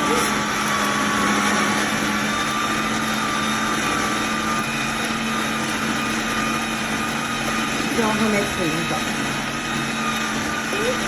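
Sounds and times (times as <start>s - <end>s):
juicer motor humming: 0.0s - 11.0s.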